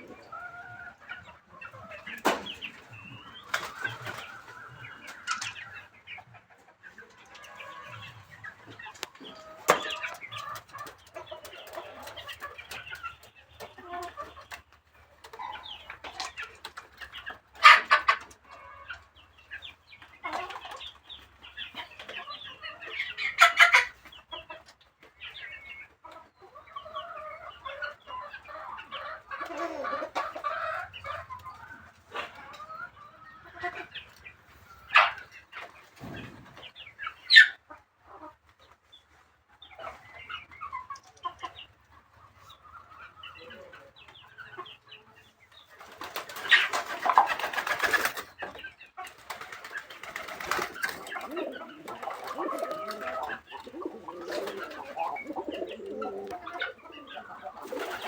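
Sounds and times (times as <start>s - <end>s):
fowl clucking and calling: 0.0s - 58.0s.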